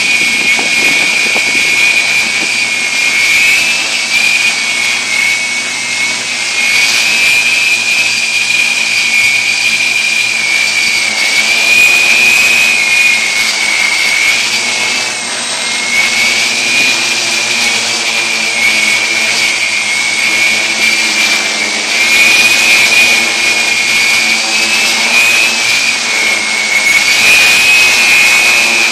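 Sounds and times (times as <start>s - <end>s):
drone propellers whining: 0.0s - 28.9s.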